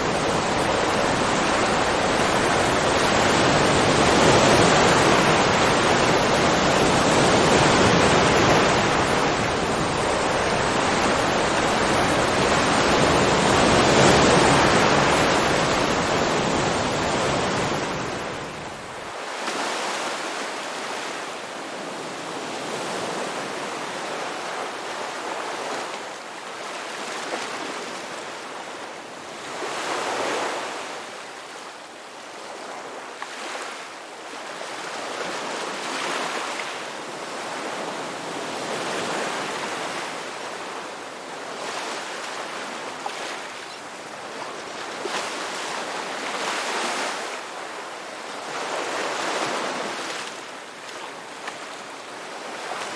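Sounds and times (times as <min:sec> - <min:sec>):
ocean waves on a shore: 0:00.0 - 0:52.9.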